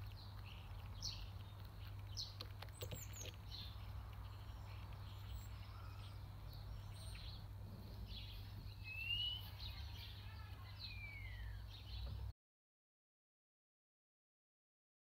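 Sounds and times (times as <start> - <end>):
small birds chirping: 0.0 - 12.3.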